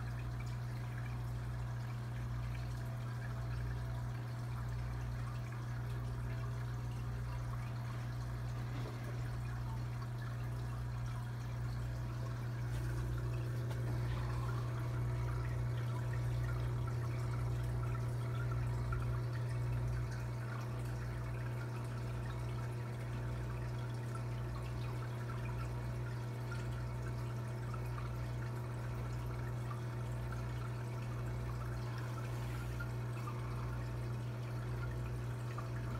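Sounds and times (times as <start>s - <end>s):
sponge filter bubbling: 0.0s - 35.9s
steady low hum: 0.0s - 35.9s.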